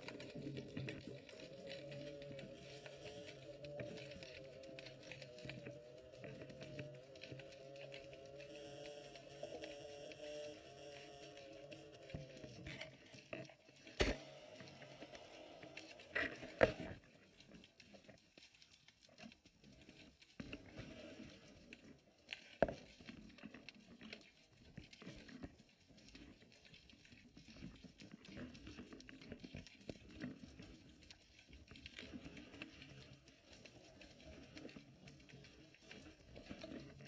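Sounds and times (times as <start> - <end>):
muffled underwater rumble: 0.0 - 37.0.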